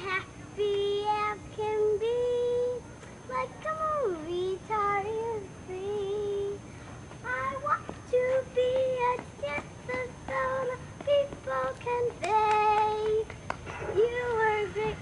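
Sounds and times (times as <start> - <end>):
girl singing unaccompanied: 0.0 - 13.3, 13.9 - 15.0.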